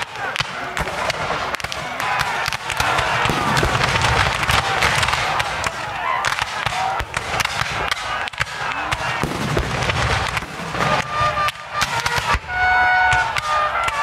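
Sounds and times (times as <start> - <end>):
musket fire crackle: 0.0 - 14.0.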